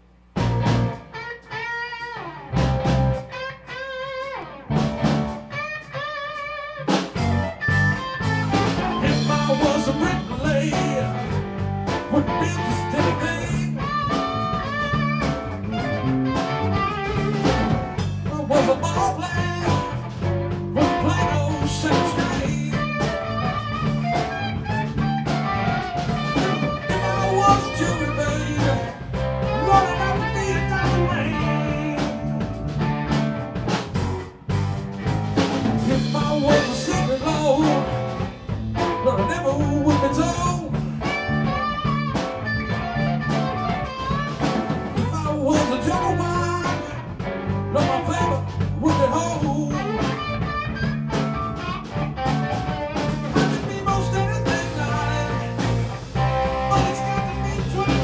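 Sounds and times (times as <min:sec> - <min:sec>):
live blues band playing: 0:00.4 - 0:58.0.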